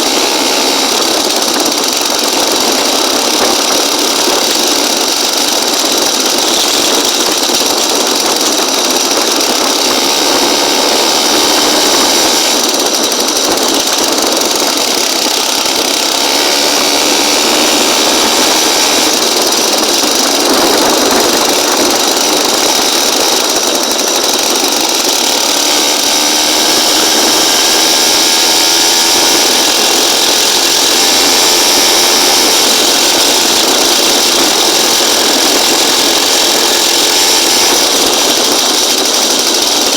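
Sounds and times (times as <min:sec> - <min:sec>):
small buzzy engine running: 0:00.0 - 0:39.9.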